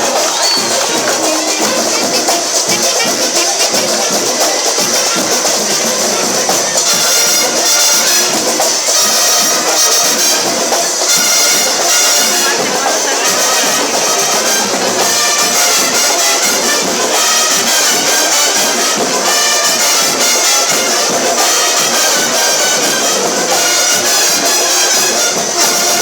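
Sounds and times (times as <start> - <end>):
band playing with brass melody: 0.0 - 26.0.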